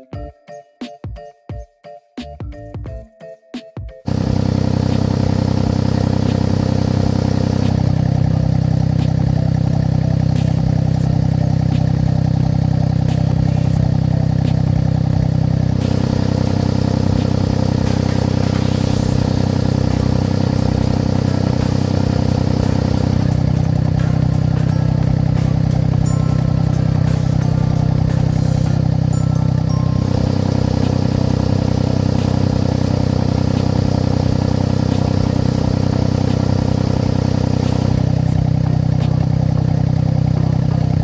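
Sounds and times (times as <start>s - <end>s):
vehicle engine exhaust running: 4.1s - 41.0s.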